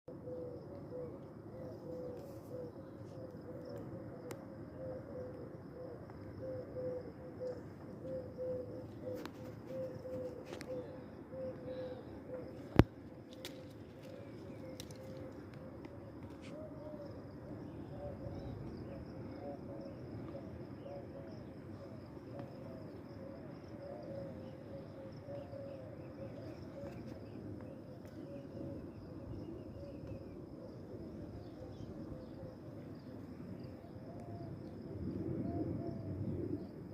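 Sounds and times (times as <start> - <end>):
doves cooing: 0.1 - 36.9.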